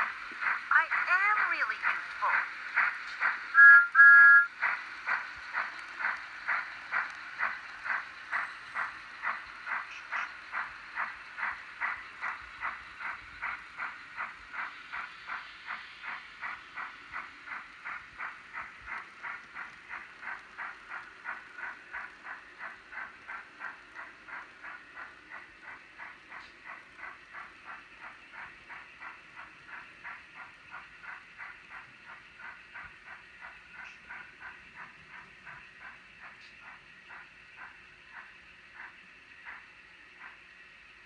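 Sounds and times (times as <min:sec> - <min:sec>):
steam locomotive chuffing: 0:00.0 - 0:41.0.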